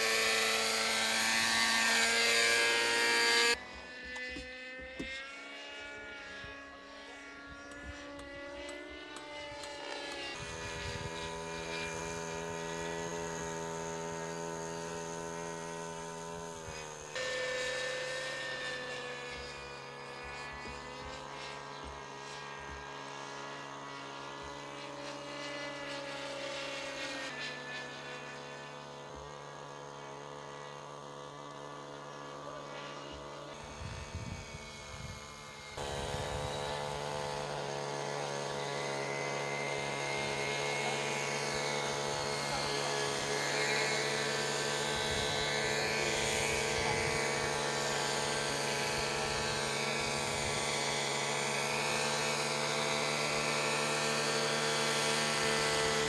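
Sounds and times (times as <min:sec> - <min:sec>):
model helicopter engine and rotor whine: 0:00.0 - 0:56.0.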